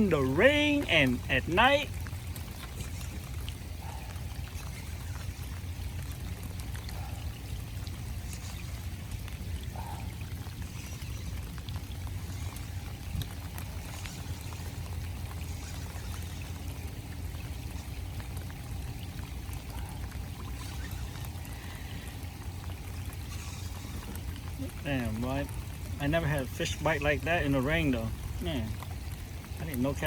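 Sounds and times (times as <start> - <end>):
rain falling: 0.0 - 30.0
raindrops ticking: 0.0 - 30.0.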